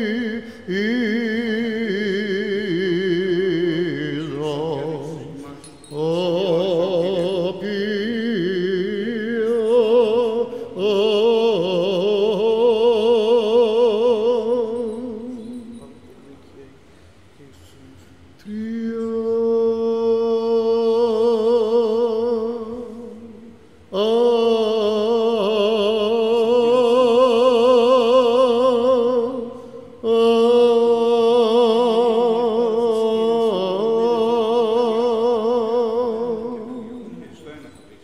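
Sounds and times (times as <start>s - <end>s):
solo voice chanting: 0.0s - 16.2s, 18.4s - 37.7s.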